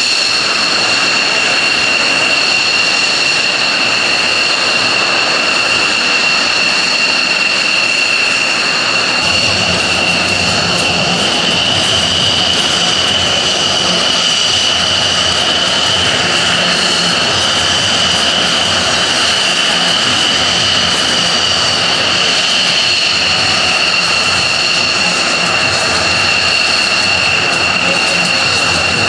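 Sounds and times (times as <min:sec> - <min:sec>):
high engine whine: 0:00.0 - 0:29.0
jet engines running: 0:00.0 - 0:29.0.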